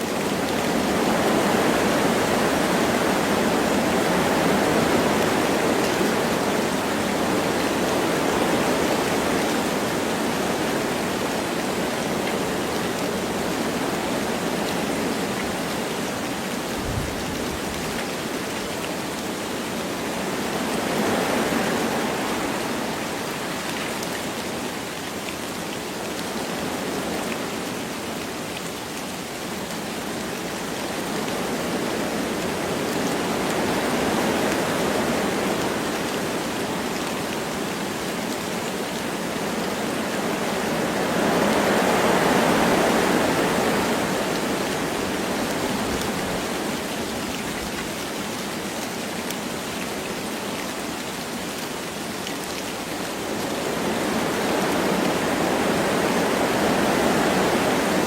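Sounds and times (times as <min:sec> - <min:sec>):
light rain falling: 0:00.0 - 0:58.0
wind through forest trees: 0:00.0 - 0:58.0.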